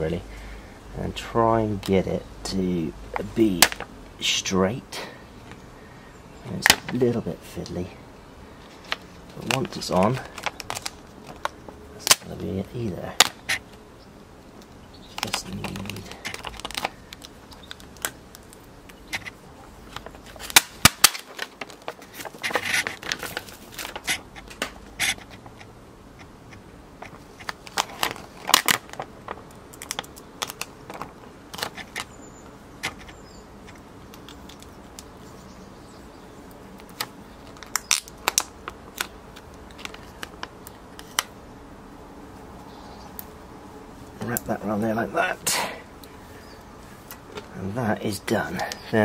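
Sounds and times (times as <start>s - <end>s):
vinyl film crinkling and crackling: 1.0s - 4.5s, 6.5s - 7.9s, 8.5s - 13.8s, 14.5s - 35.4s, 36.4s - 41.5s, 42.3s - 49.0s.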